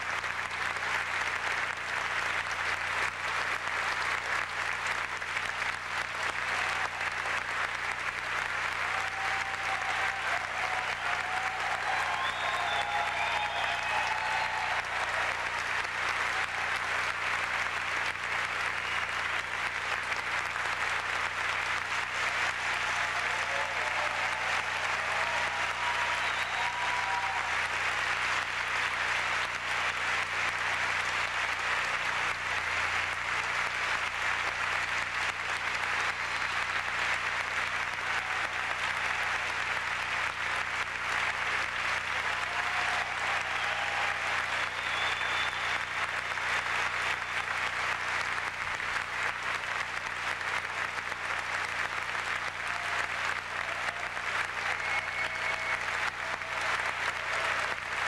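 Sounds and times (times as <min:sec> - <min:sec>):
large audience applauding: 0:00.0 - 0:58.0.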